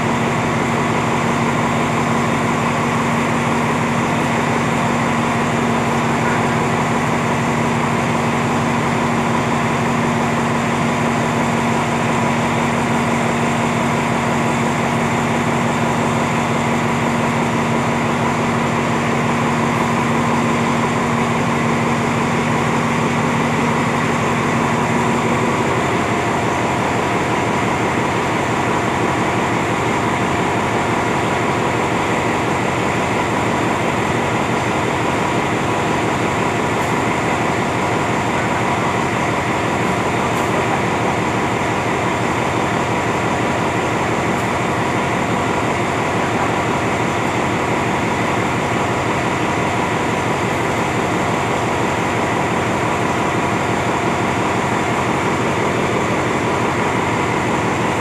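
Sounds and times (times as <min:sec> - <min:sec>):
diesel train engine humming: 0:00.0 - 0:58.0
low engine tone: 0:00.0 - 0:58.0.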